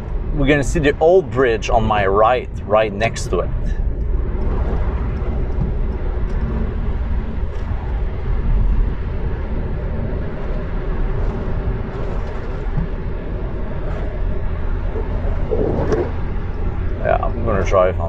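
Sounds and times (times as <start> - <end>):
car tyre and engine rumble: 0.0 - 18.0.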